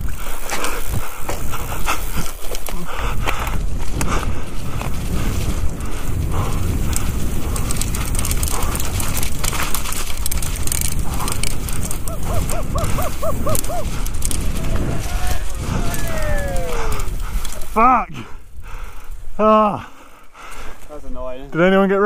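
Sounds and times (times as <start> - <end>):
wind buffeting microphone: 0.0 - 21.5
bike rattling over bumps: 0.0 - 22.0
bike tyres rumbling: 0.0 - 22.0.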